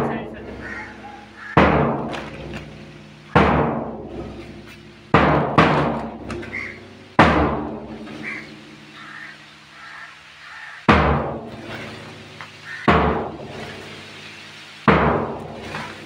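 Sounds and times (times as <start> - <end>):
large drum beaten slowly: 0.0 - 9.0, 10.9 - 16.0.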